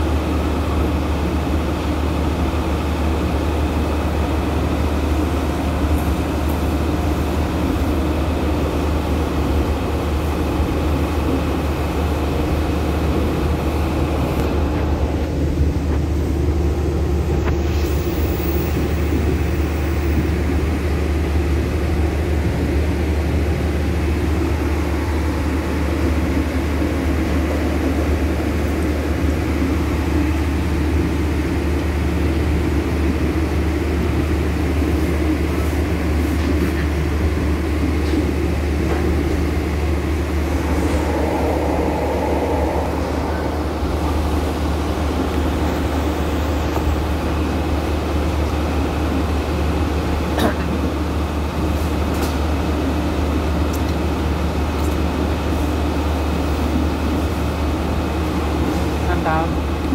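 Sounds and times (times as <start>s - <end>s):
train carriage rumble and hum: 0.0s - 59.9s.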